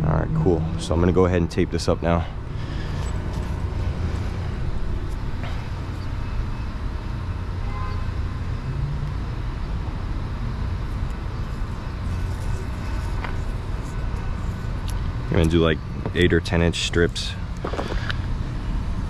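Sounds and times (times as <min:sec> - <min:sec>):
distant traffic rumble: 0:00.0 - 0:19.0.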